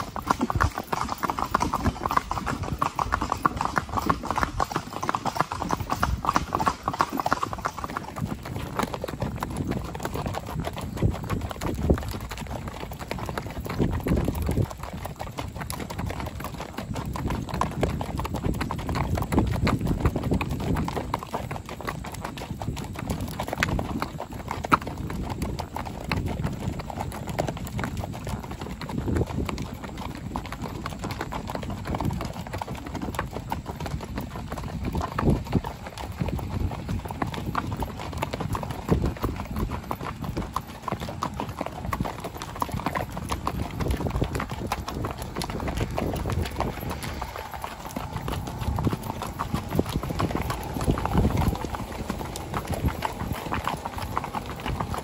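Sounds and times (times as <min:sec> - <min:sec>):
horse hooves on gravel road: 0:00.0 - 0:55.0.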